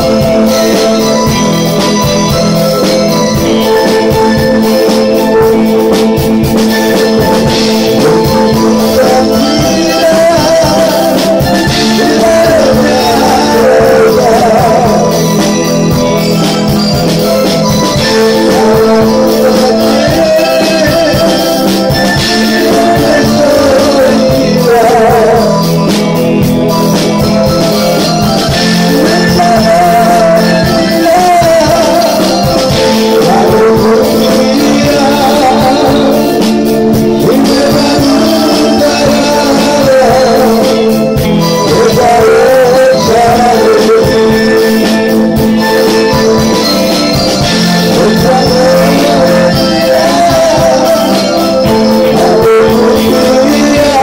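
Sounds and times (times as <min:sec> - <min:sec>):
drum kit with cymbals: 0:00.0 - 0:54.0
electric guitar: 0:00.0 - 0:54.0
electronic keyboard: 0:00.0 - 0:54.0
man singing: 0:00.0 - 0:54.0.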